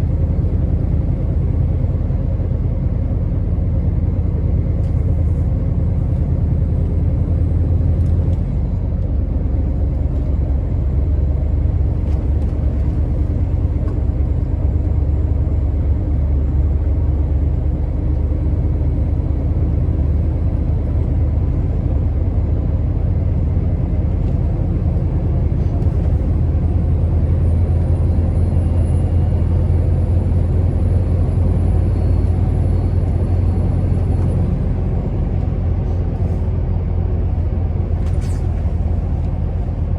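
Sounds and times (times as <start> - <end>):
truck diesel engine drone: 0.0 - 39.9.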